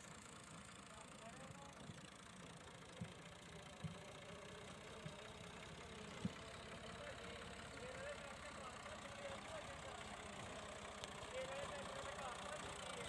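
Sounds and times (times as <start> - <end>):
diesel tractor engine idling: 0.0 - 13.0.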